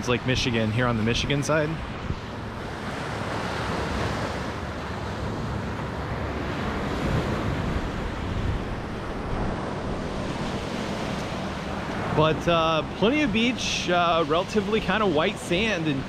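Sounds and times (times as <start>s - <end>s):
small waves washing onto sand: 0.0s - 16.0s
wind buffeting microphone: 0.0s - 16.0s.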